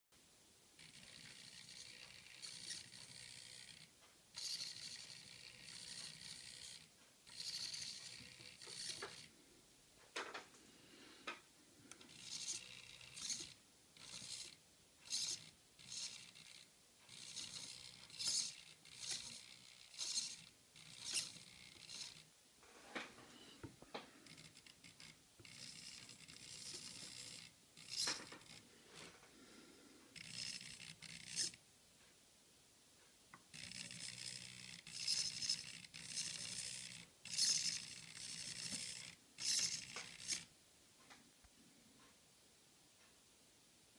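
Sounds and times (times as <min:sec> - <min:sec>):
small servo whirring: 0:00.8 - 0:09.4, 0:11.0 - 0:22.3, 0:23.3 - 0:31.6, 0:33.4 - 0:40.5.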